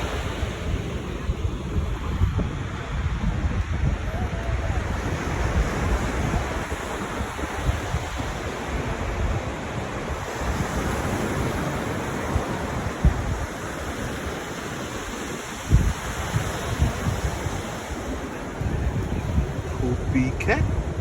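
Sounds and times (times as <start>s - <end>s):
sea and surf: 0.0s - 21.0s
wind buffeting microphone: 0.0s - 21.0s.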